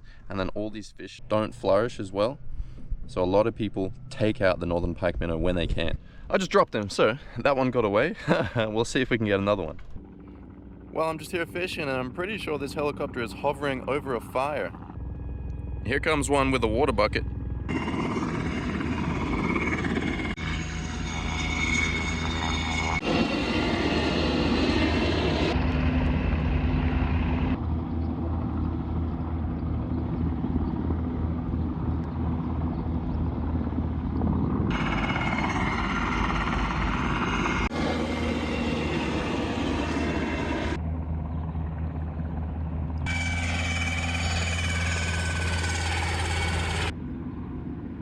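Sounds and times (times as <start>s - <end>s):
helicopter rotor and engine: 1.2s - 48.0s.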